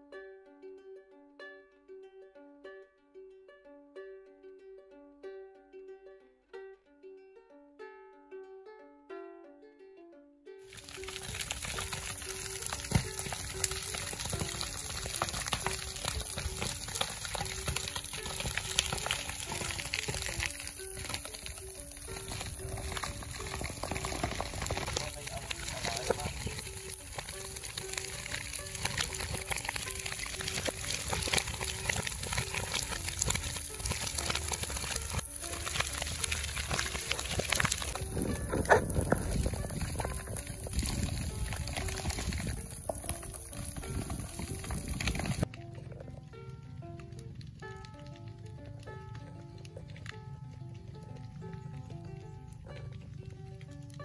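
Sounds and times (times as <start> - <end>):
quiet background music: 0.0 - 54.0
brush fire crackling: 10.7 - 54.0.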